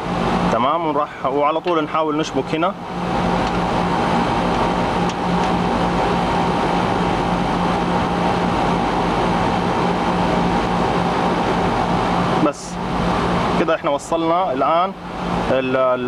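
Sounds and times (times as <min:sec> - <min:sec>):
air conditioner compressor and fan hum: 0:00.0 - 0:16.0.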